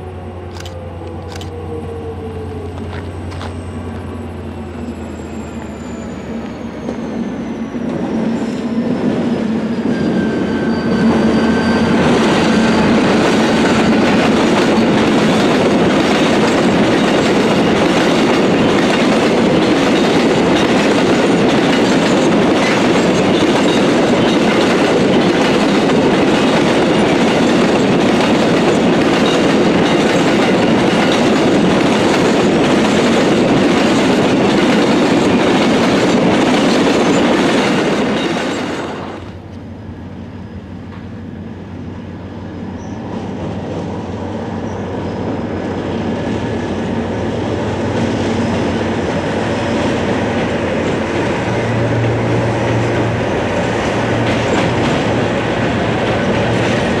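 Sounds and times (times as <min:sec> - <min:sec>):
locomotive engine whine: 0:00.0 - 0:57.0
train wheels rolling on rails: 0:00.0 - 0:57.0.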